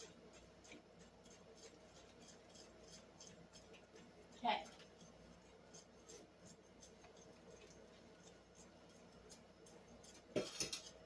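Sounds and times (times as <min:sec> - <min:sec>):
utensils scraping in a bowl: 0:00.0 - 0:11.0.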